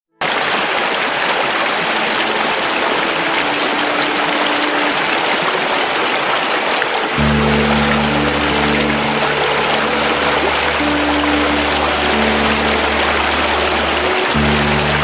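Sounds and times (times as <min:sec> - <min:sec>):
water rushing: 0:00.2 - 0:15.0.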